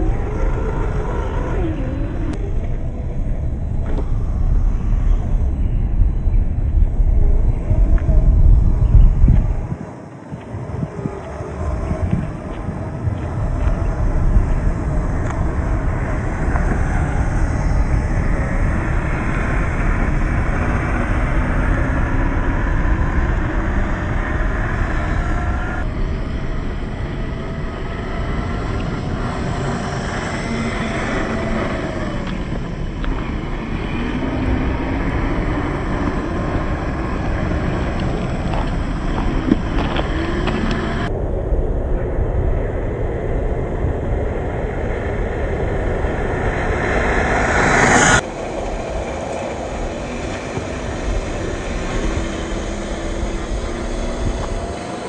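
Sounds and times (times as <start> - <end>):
low rumble: 0.0 - 55.0.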